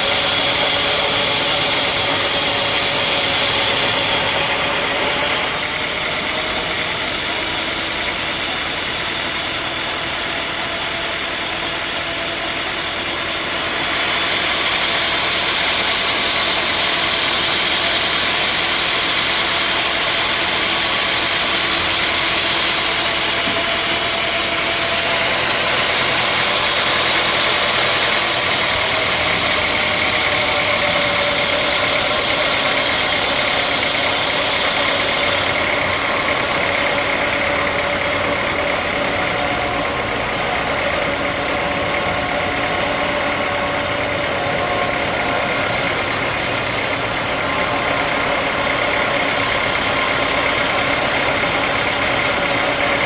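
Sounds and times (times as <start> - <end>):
sawmill saw cutting wood: 0.0 - 53.0.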